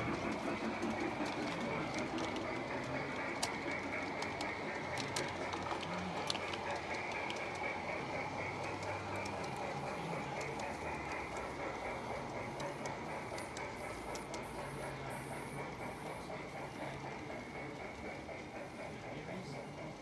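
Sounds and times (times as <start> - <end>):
rhythmic high hiss: 0.0 - 19.8
model steam locomotive running: 0.0 - 20.0
wheels clicking on track: 0.0 - 20.0.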